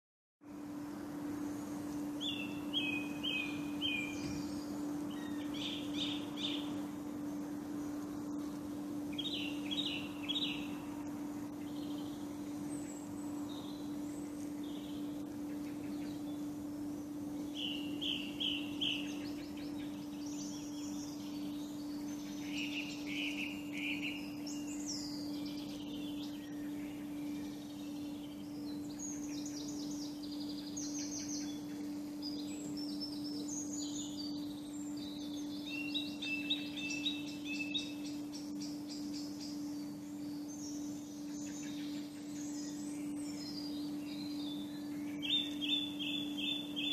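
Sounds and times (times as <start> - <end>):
steady low hum: 0.4 - 46.9.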